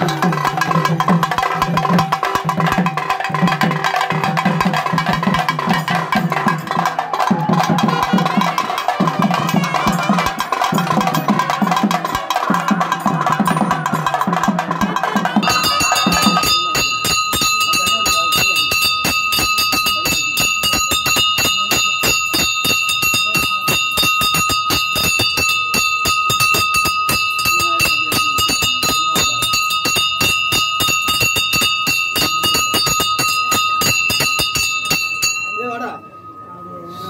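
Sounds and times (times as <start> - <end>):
bell rung rapidly: 0.0 - 37.0.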